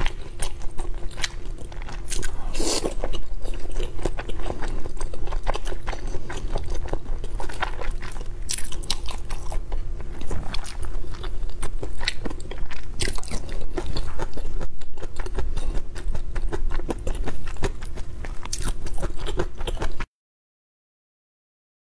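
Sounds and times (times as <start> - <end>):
person biting and chewing food: 0.0 - 20.0.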